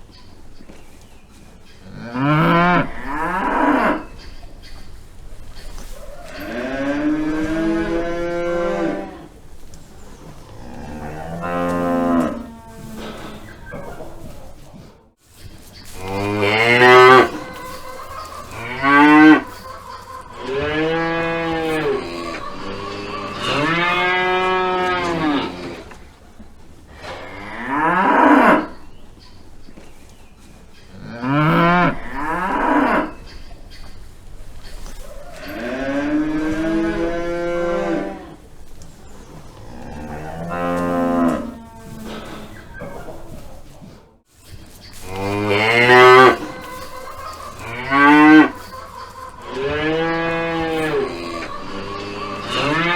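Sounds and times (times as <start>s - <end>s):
cattle mooing: 1.8s - 14.5s, 15.9s - 26.2s, 26.9s - 28.8s, 31.0s - 33.3s, 34.4s - 43.3s, 44.9s - 52.9s.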